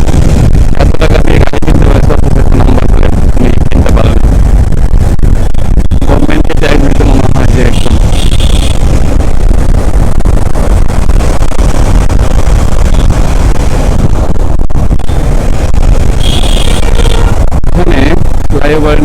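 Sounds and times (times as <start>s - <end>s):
wind rush and road noise: 0.0s - 19.0s.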